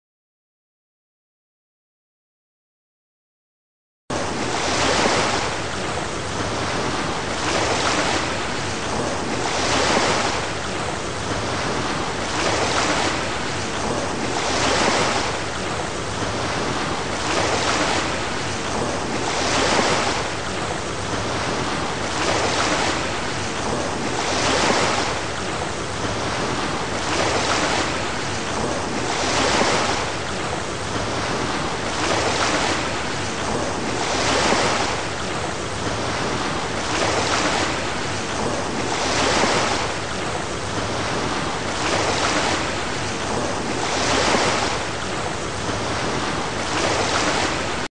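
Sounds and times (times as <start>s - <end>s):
waves breaking: 4.1s - 47.9s.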